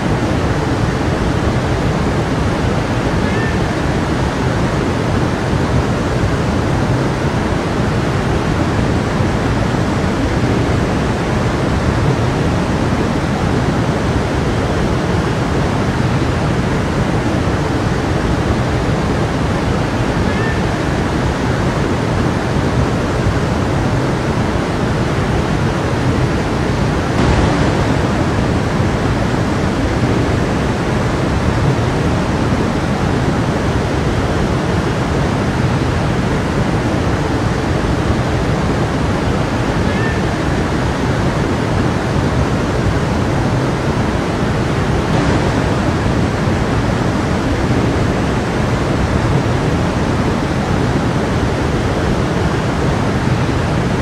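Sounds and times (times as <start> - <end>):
stream of water rushing: 0.0 - 54.0.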